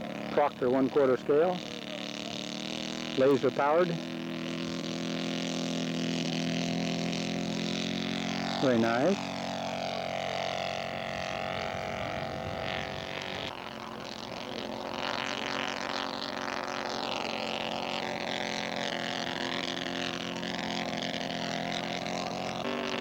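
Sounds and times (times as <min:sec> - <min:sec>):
model airplane engine in flight: 0:00.0 - 0:23.0.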